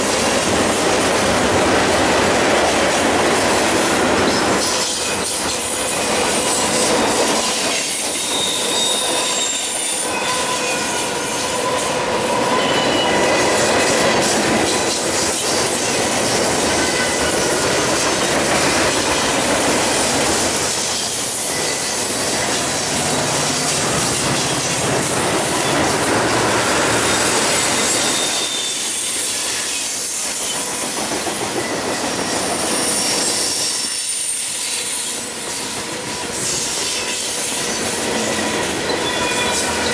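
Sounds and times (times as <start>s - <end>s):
freight train wheels on rails: 0.0s - 39.9s
high wheel squeals: 4.3s - 15.2s, 15.8s - 30.7s, 31.6s - 39.9s.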